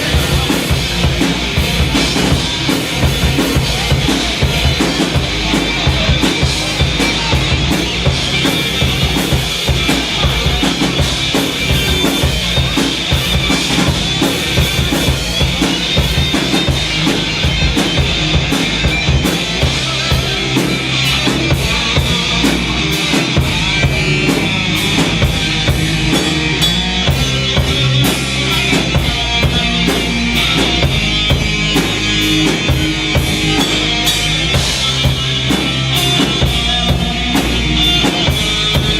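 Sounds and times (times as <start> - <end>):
drum kit: 0.0 - 38.9
rock band playing live: 0.0 - 38.9.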